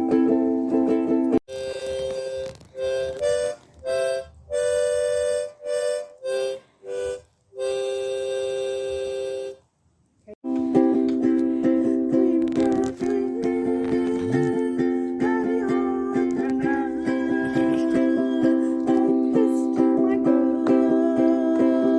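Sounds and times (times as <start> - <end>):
harmonica chords: 0.0 - 9.7, 10.4 - 21.9.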